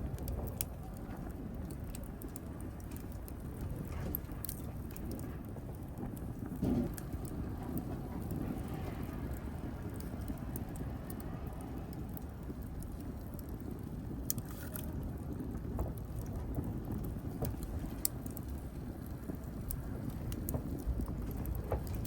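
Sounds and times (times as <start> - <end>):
rush of flame: 0.0 - 22.0
wood crackling and popping: 0.0 - 22.0.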